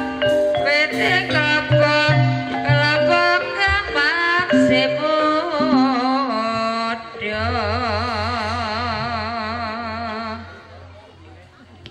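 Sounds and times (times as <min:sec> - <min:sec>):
person singing with vibrato: 0:00.0 - 0:10.7
gamelan music: 0:00.0 - 0:10.9.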